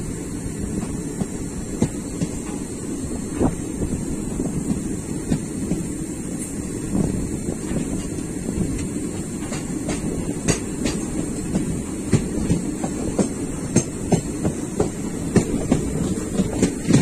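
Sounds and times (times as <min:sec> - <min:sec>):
train wheels rumbling on track: 0:00.0 - 0:17.0
rail joint clicks and knocks: 0:00.7 - 0:17.0.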